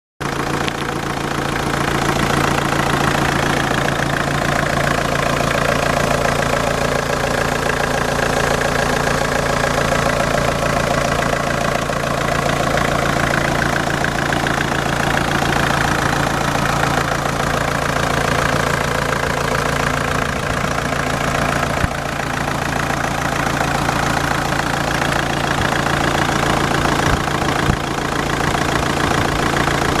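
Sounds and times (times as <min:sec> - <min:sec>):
diesel engine idling: 0:00.2 - 0:30.0.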